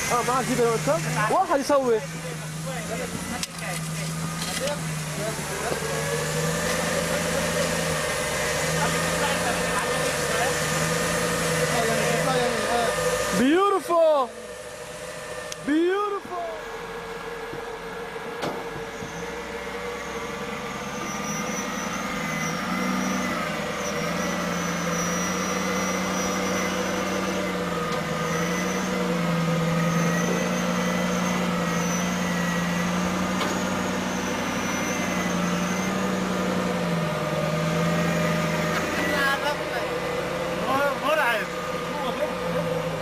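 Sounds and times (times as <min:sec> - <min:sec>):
engine revving under load: 0:00.0 - 0:43.0.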